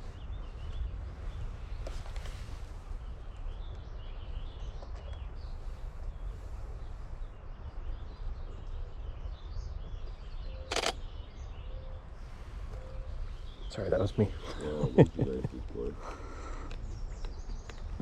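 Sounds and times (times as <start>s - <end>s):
songbirds chirping: 0.0s - 18.0s
steady low rumble: 0.0s - 18.0s.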